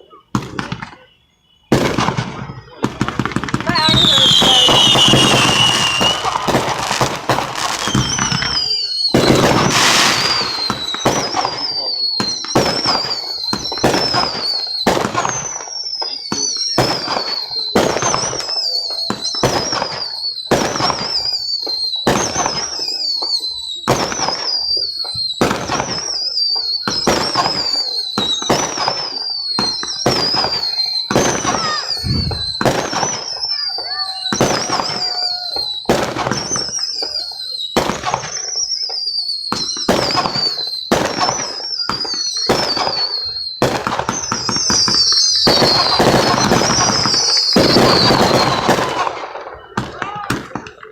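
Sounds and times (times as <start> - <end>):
fireworks shots whistling: 0.0 - 50.9.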